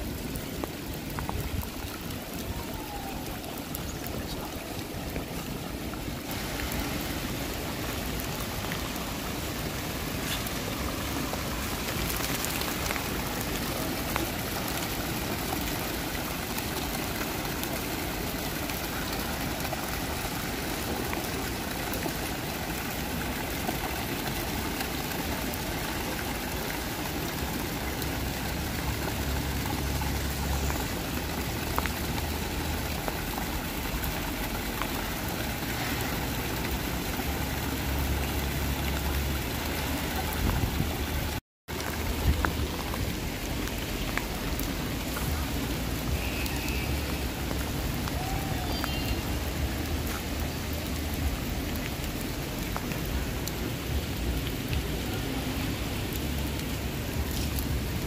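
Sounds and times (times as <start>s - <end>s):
falling rain: 0.0s - 58.0s
fountain water splashing: 0.0s - 58.0s.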